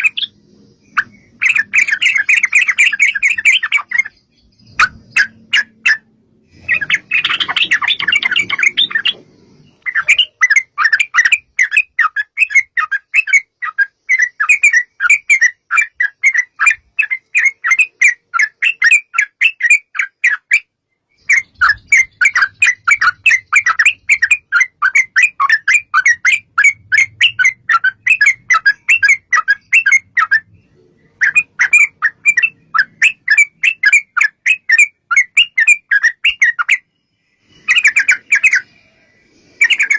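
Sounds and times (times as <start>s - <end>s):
harsh bird chattering: 0.0s - 20.6s, 21.2s - 36.9s, 37.6s - 38.8s, 39.5s - 39.9s
bird chirping song: 0.0s - 39.9s.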